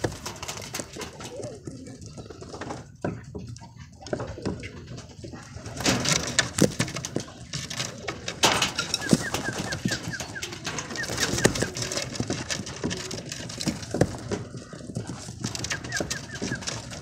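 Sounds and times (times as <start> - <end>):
pigeons cooing: 0.0 - 17.0
pigeons fluttering and knocking: 0.0 - 17.0.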